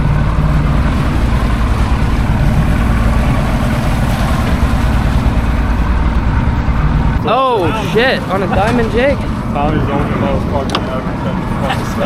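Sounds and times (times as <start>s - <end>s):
motorboat engine running: 0.0s - 12.0s
water rushing noise: 0.0s - 12.0s.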